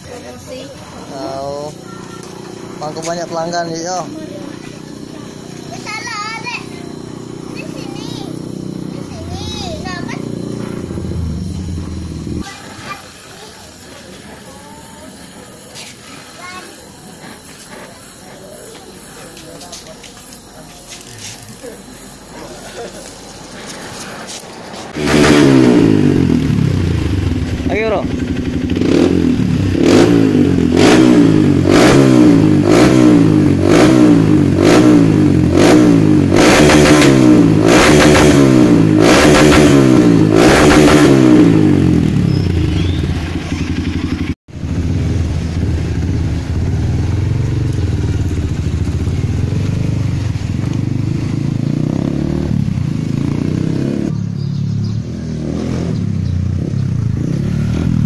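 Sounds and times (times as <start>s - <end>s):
motorcycle engine idling: 0.0s - 58.0s
motorcycle engine revving: 0.0s - 58.0s.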